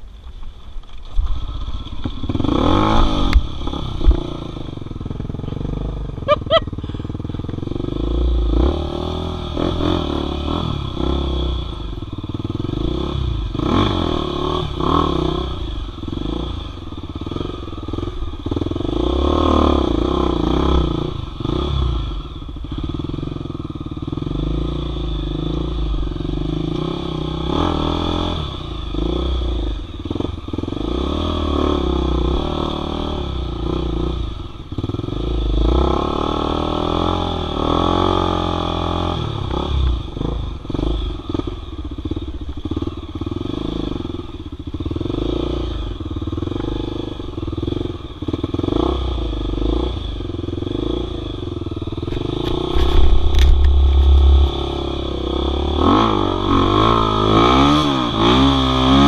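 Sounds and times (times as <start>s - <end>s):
motorcycle engine revving: 0.3s - 59.0s.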